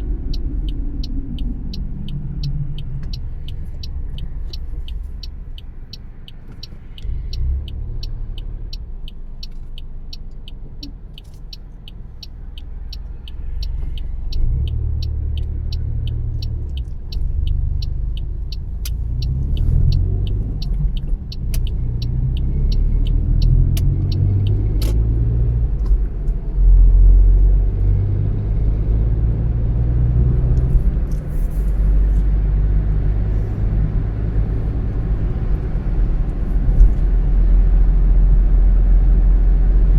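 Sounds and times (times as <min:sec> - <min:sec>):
car engine and road noise: 0:00.0 - 0:39.9
turn signal ticking: 0:00.0 - 0:39.9.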